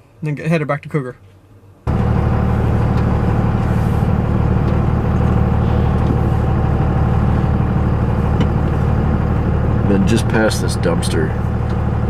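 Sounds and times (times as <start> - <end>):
vehicle engine running: 1.8 - 12.0.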